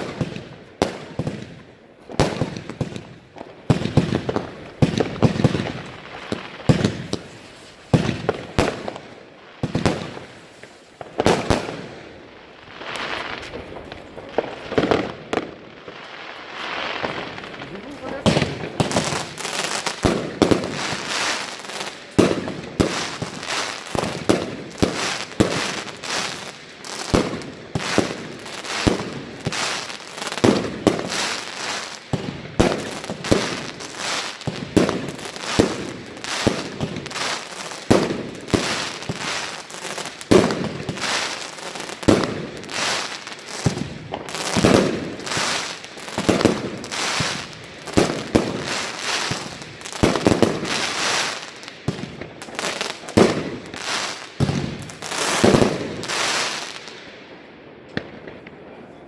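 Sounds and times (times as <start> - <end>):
fireworks shots and bangs: 0.0 - 10.3, 11.0 - 12.0, 16.9 - 57.0, 57.9 - 58.8
fireworks crackling: 0.0 - 59.0.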